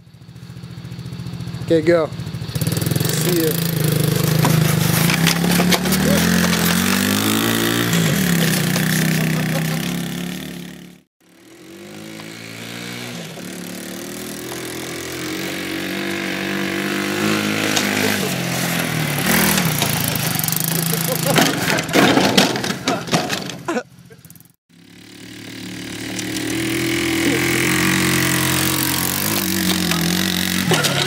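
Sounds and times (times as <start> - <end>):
atv engine revving: 0.1 - 31.0.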